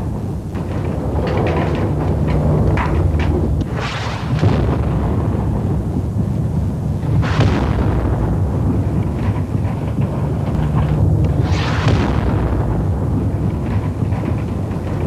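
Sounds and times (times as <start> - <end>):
low rumble of bombardment: 0.0 - 15.0
shell explosion blast: 0.0 - 15.0.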